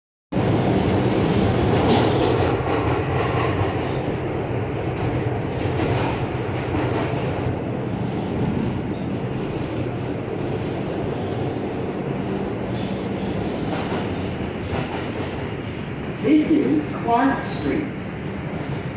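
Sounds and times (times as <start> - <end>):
subway wheels rumbling on rail: 0.3 - 18.9.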